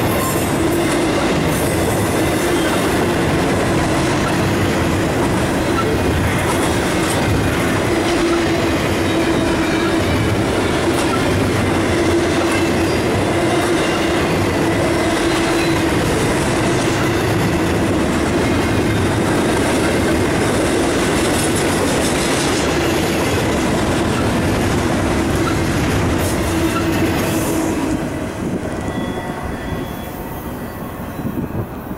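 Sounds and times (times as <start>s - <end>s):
freight train wheels rumbling: 0.0s - 31.9s.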